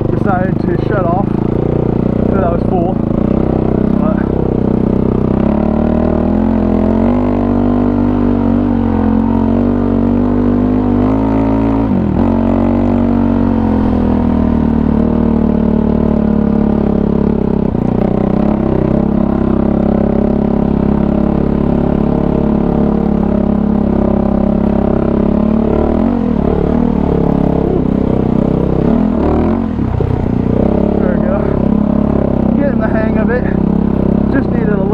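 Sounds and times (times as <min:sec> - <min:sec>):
quad bike engine running: 0:00.0 - 0:34.9.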